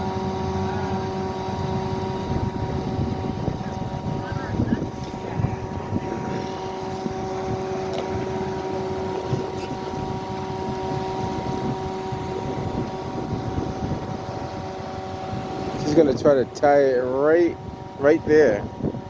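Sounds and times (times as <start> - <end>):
truck engine humming: 0.0 - 18.1
low rumble: 0.5 - 16.6.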